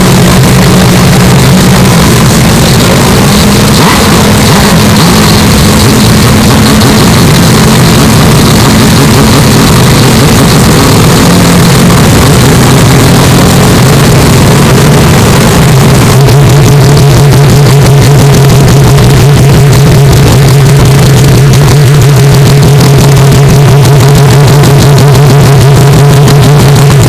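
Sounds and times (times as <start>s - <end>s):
rotary engine idling: 0.0s - 27.0s.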